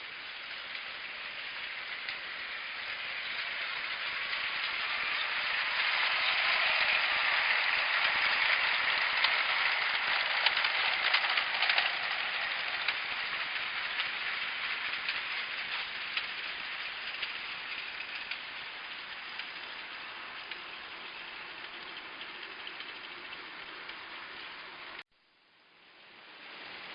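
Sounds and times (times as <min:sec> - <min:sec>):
toy train running on track: 0:00.0 - 0:25.0, 0:26.1 - 0:26.9
train wheels clicking over rail joints: 0:00.2 - 0:25.0.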